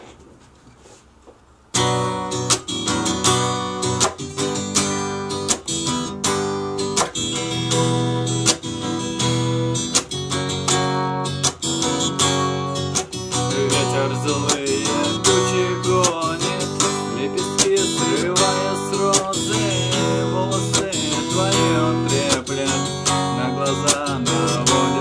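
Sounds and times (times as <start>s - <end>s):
acoustic guitar strumming: 1.7s - 25.0s.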